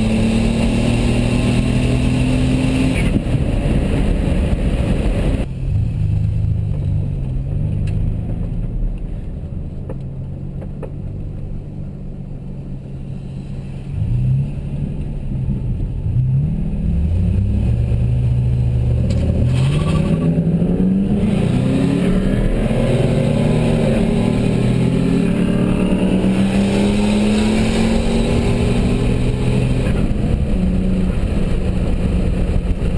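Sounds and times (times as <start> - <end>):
truck engine idling and revving: 0.0 - 32.9.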